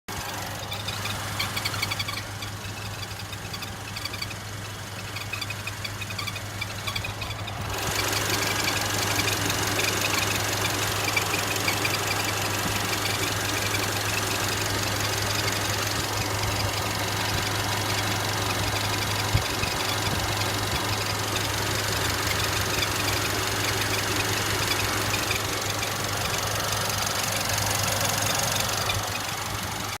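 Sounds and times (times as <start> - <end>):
car engine running: 0.1 - 30.0
car squeaking: 0.1 - 30.0.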